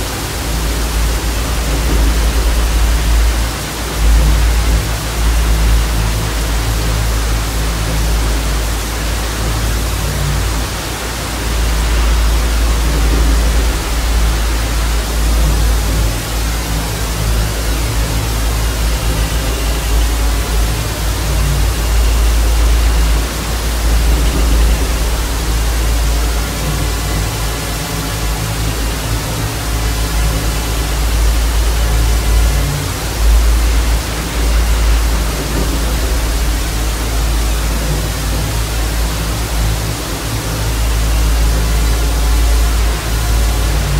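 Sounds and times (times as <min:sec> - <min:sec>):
ambient music drone: 0:00.0 - 0:43.9
tv static hiss: 0:00.0 - 0:43.9.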